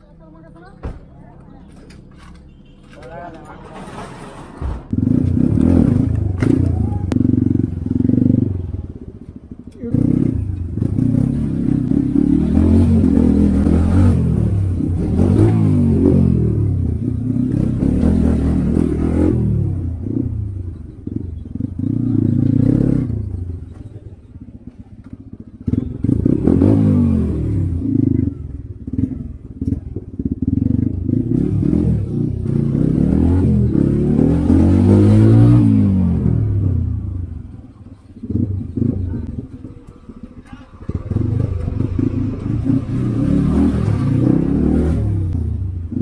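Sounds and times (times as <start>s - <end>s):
motorcycle engine accelerating: 4.9s - 46.0s.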